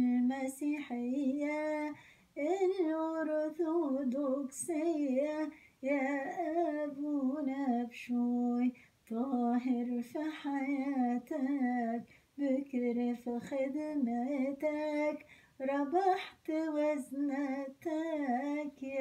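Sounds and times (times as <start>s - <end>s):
woman singing unaccompanied: 0.0s - 19.0s.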